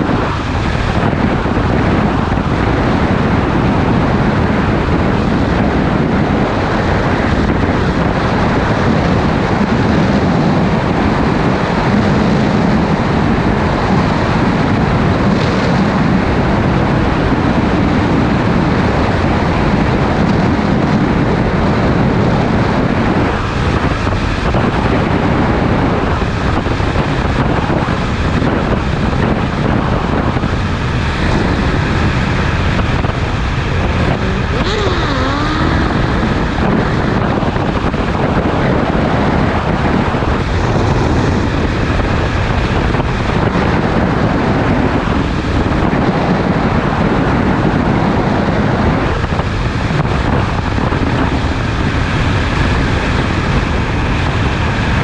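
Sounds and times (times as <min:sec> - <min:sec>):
motorcycle engine drone: 0:00.0 - 0:55.0
wind rush on microphone: 0:00.0 - 0:55.0.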